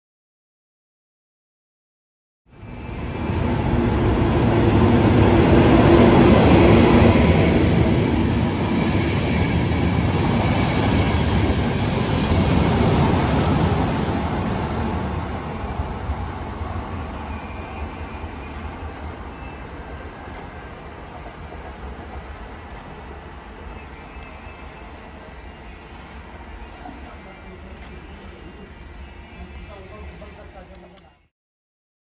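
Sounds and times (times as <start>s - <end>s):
train running past: 2.5s - 31.1s.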